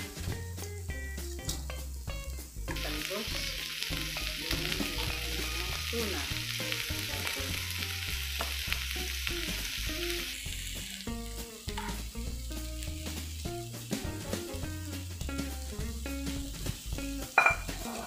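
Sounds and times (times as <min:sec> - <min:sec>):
vegetables sizzling in oiled pan: 0:00.0 - 0:18.0.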